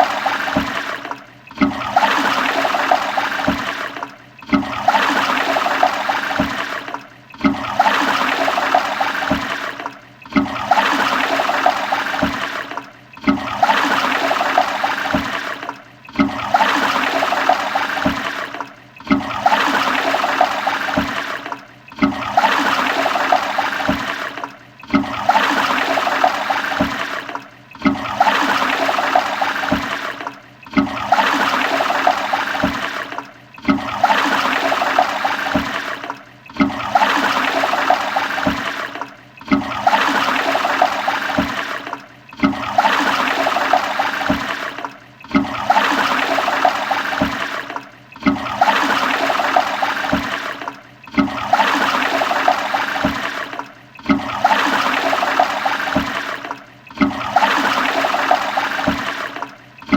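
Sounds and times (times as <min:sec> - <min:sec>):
toilet flushing gurgling water: 0:00.0 - 0:59.9.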